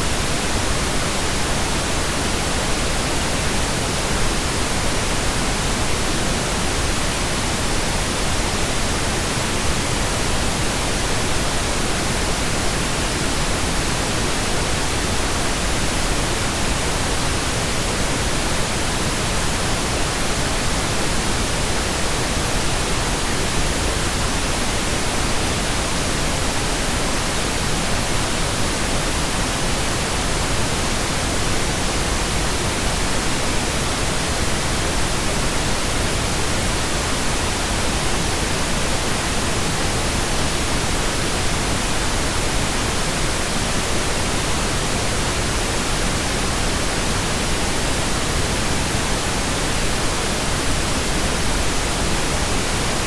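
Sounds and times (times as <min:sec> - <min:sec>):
steady pink noise hiss: 0:00.0 - 0:53.0.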